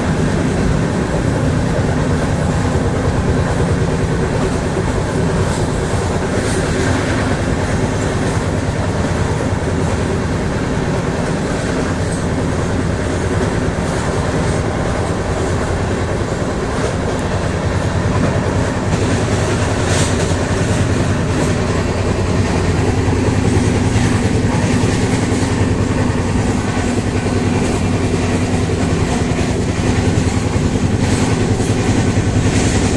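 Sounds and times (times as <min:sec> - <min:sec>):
vehicle engine rumbling: 0:00.0 - 0:32.9.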